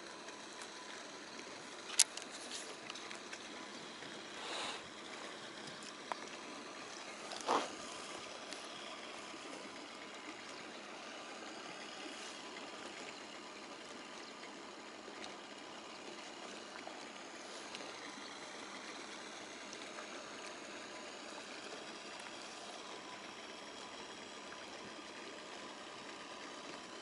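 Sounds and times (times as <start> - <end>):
faint steady hum: 0.0 - 27.0
small waves washing: 0.0 - 27.0
wind: 0.0 - 27.0.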